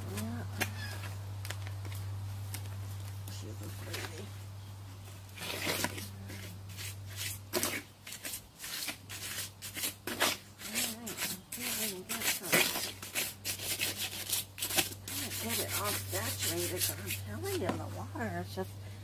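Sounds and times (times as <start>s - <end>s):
cloth rubbing in wet concrete: 1.8s - 18.8s.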